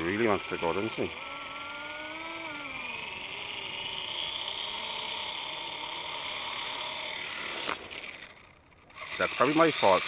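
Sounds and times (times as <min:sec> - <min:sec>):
rc helicopter motor whine: 0:00.0 - 0:10.0.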